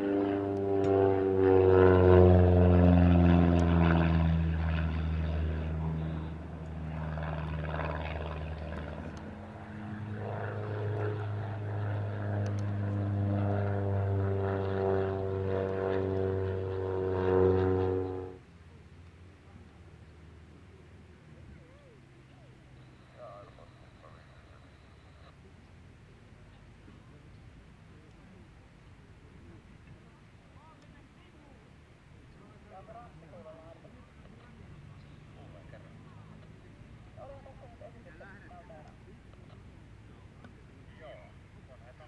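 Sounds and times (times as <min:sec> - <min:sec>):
biplane engine and propeller droning: 0:00.0 - 0:42.0.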